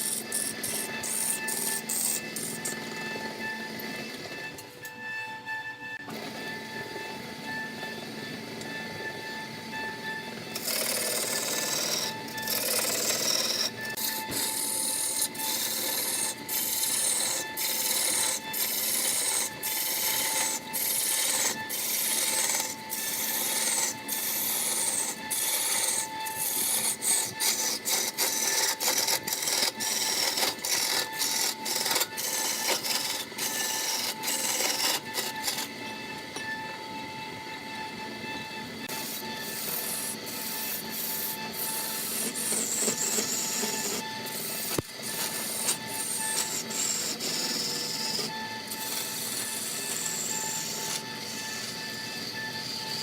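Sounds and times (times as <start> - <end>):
tool scraping wood: 0.0 - 5.0, 10.5 - 36.6, 38.8 - 53.0.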